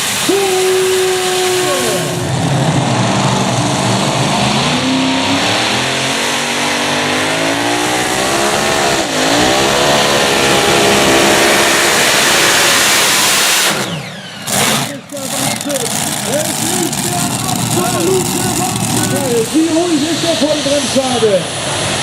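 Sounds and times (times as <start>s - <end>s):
tractor engine at full throttle: 0.0s - 22.0s.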